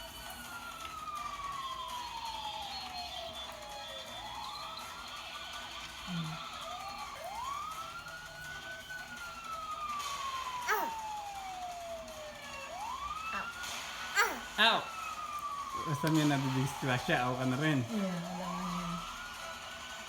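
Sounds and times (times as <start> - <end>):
toy siren wailing: 0.0 - 19.7.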